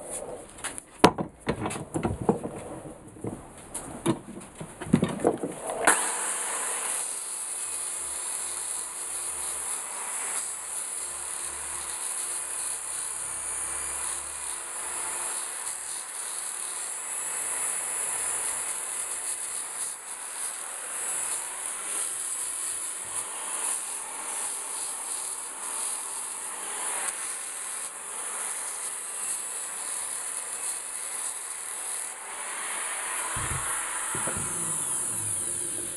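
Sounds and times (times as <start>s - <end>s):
drill grinding rust off metal: 4.1s - 35.9s.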